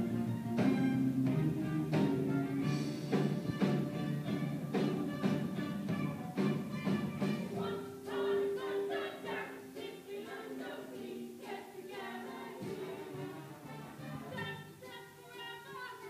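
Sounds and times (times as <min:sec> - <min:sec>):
musical accompaniment: 0:00.0 - 0:16.0
chorus singing: 0:01.3 - 0:16.0.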